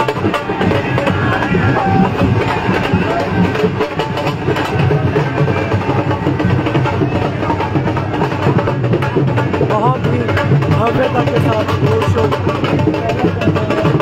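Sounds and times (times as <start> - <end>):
percussion-led music: 0.0 - 14.0.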